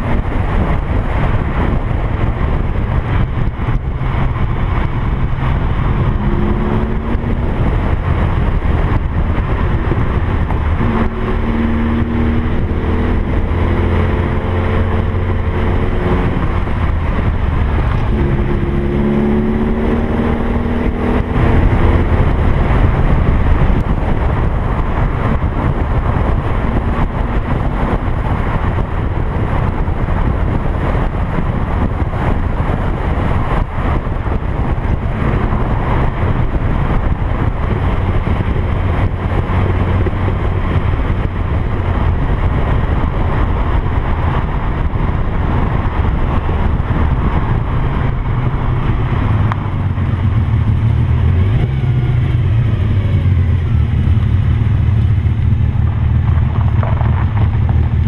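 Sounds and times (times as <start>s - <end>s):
car engine accelerating: 0.0s - 58.0s
wind noise: 0.0s - 58.0s.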